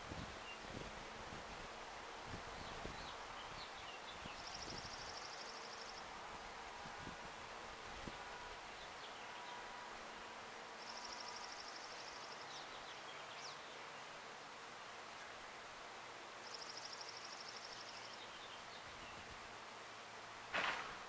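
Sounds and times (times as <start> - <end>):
soft outdoor hiss: 0.0 - 21.0.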